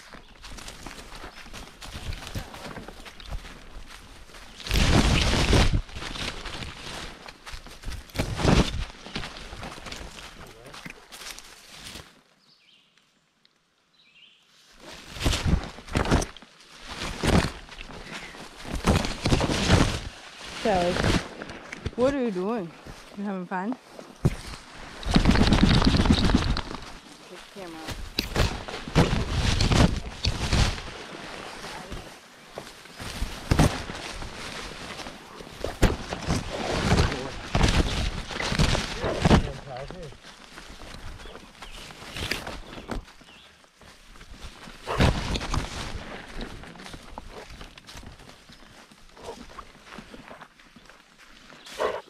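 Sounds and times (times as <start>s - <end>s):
footsteps crunching through leaves: 0.0s - 12.3s, 14.5s - 52.0s.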